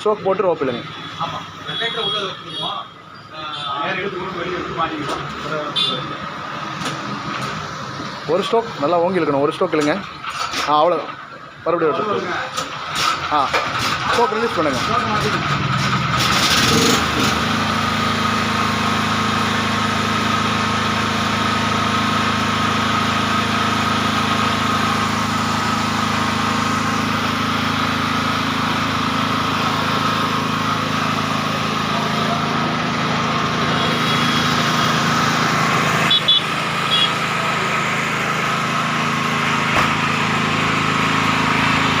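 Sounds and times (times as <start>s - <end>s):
generator engine running: 0.0s - 42.0s.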